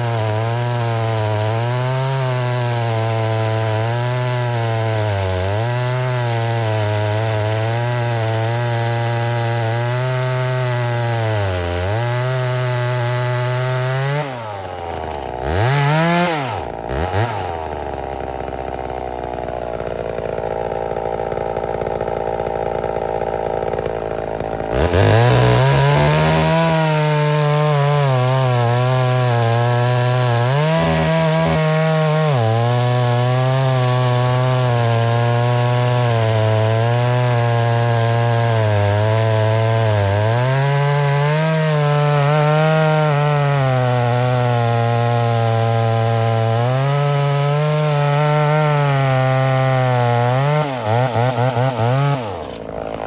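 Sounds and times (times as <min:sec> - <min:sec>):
chainsaw engine blipped: 0:00.0 - 0:53.0
chainsaw idling: 0:00.0 - 0:53.0
chainsaw running at full throttle: 0:00.0 - 0:53.0.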